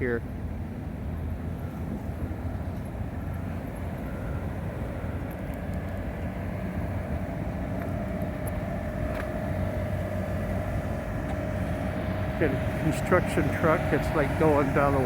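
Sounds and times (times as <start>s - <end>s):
street traffic rumble: 0.0s - 15.0s
vehicle engine drone: 0.0s - 15.0s.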